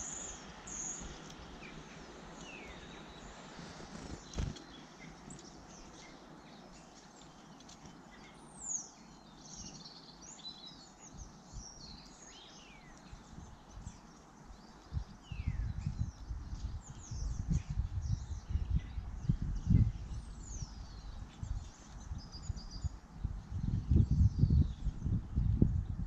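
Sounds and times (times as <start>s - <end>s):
garden birds chirping and whistling: 0.0s - 26.0s.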